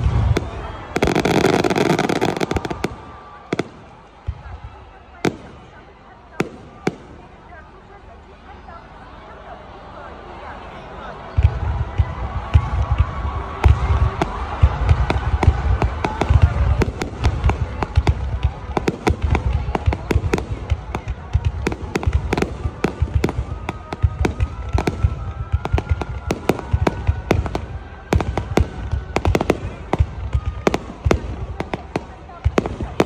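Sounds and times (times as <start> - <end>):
fireworks bangs and crackles: 0.0 - 7.8, 11.2 - 33.0.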